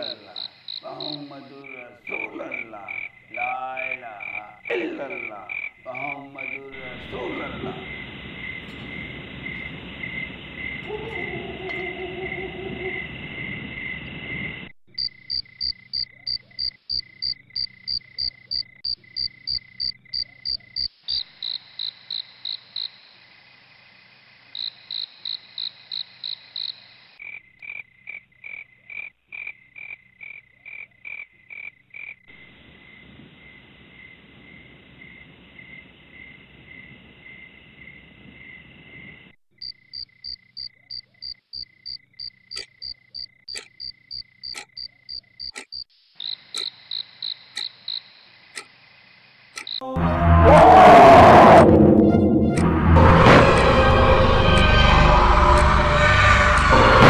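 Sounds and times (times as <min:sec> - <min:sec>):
crickets chirping: 0:00.0 - 0:49.9
frogs croaking: 0:00.0 - 0:51.6.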